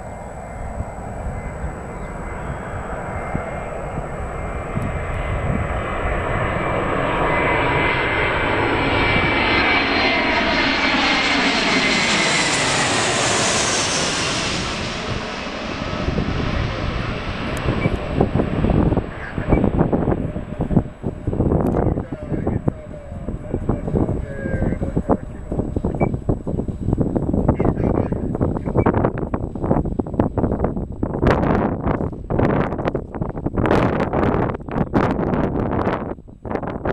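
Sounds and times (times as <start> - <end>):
jet engines passing overhead: 0.0 - 36.9.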